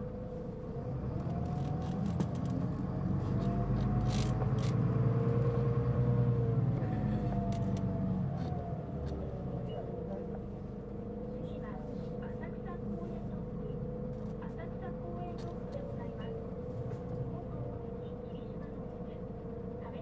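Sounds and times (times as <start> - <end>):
bus engine accelerating: 0.0 - 20.0.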